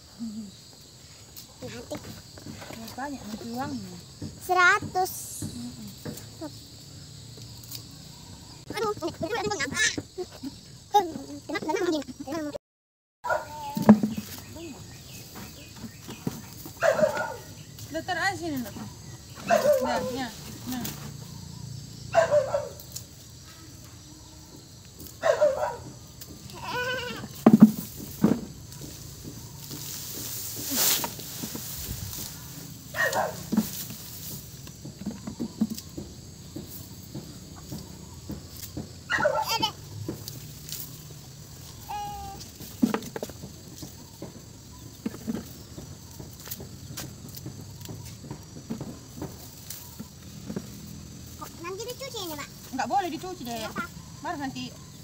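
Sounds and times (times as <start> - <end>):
dry rustle of stalks: 0.5 - 11.4, 13.3 - 21.6, 22.2 - 55.0.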